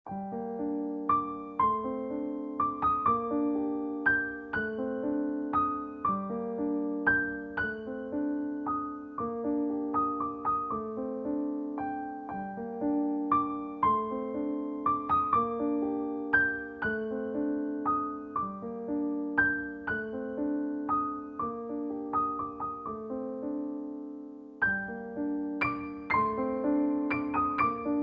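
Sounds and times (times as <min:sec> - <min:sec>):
gentle piano melody: 0:00.1 - 0:28.0.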